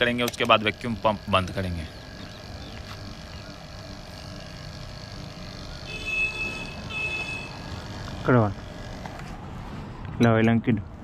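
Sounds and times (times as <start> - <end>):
vacuum pump running: 0.0 - 10.1.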